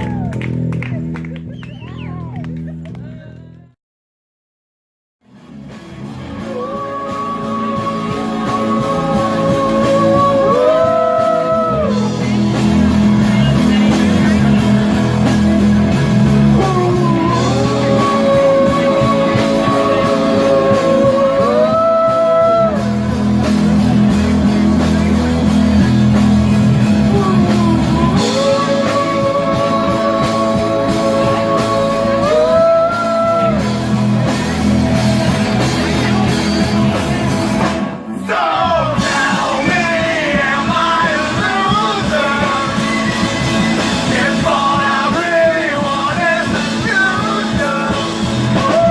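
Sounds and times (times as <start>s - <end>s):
rock band with guitar: 5.2s - 48.9s.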